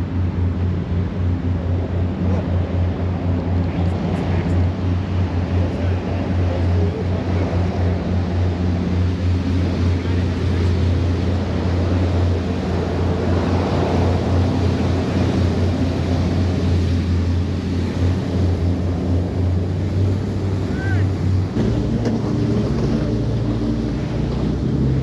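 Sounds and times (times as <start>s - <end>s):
speedboat engines droning: 0.0s - 25.0s
wind and water rushing: 0.0s - 25.0s.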